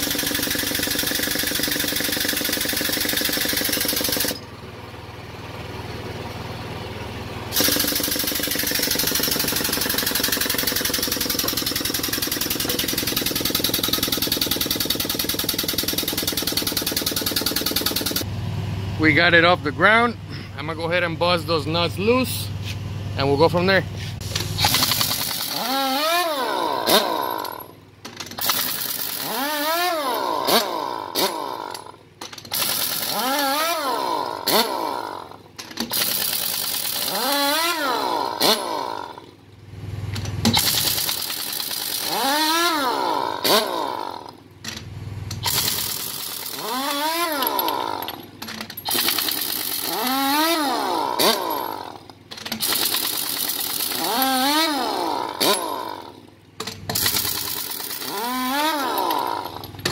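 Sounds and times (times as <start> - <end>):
pneumatic impact wrench buzzing: 0.0 - 4.5, 7.5 - 18.3, 23.9 - 39.4, 40.0 - 59.9.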